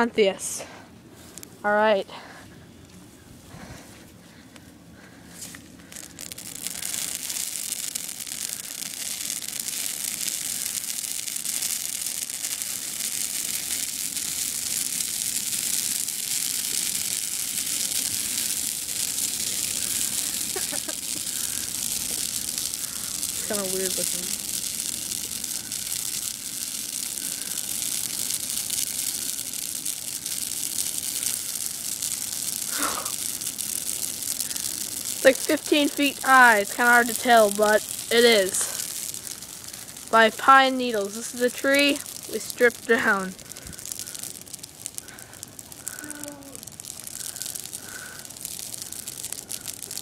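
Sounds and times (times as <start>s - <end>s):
fire crackling and hissing: 0.0s - 50.0s.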